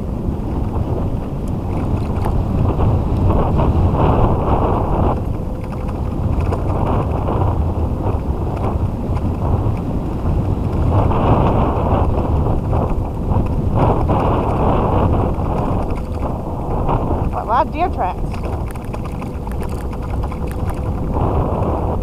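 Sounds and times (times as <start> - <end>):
tyres rumbling on dirt track: 0.0 - 22.0
wind buffeting microphone: 0.0 - 22.0.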